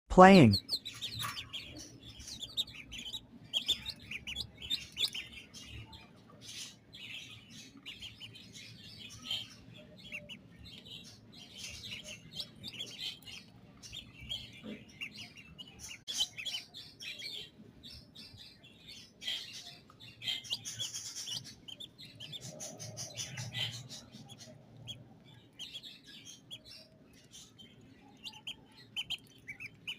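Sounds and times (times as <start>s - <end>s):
chicks cheeping: 0.4s - 29.9s.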